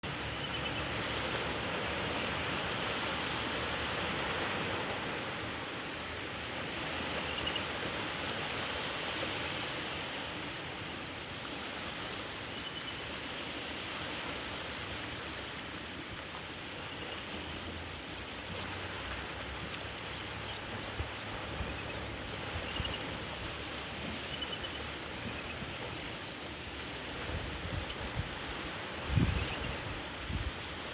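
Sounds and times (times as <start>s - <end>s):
lake water rushing at shore: 0.0s - 30.9s.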